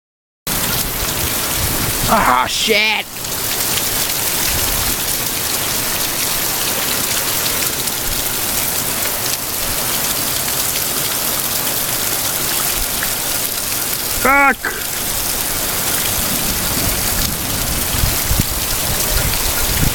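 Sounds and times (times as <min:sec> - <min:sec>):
heavy rain pouring: 0:00.5 - 0:19.9.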